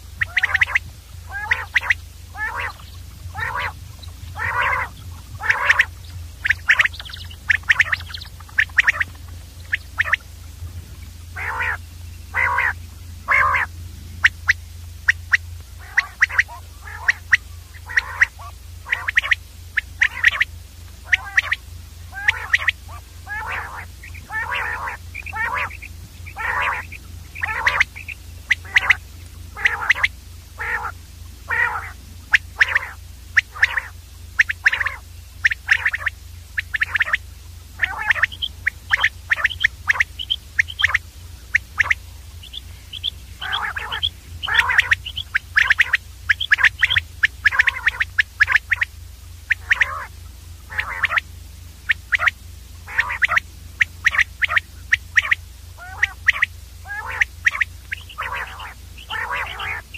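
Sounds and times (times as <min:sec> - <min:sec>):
quail calling: 0:00.0 - 0:59.9
steady low hum: 0:00.0 - 0:59.9.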